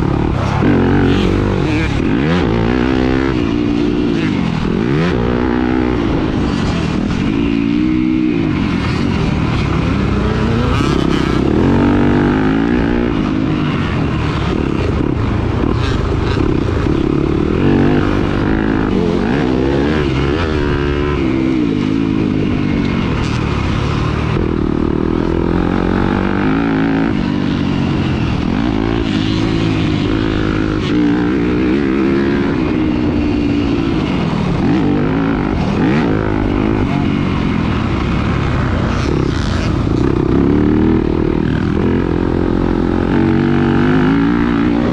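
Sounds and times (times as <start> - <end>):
dirt bike engine racing: 0.0 - 44.9.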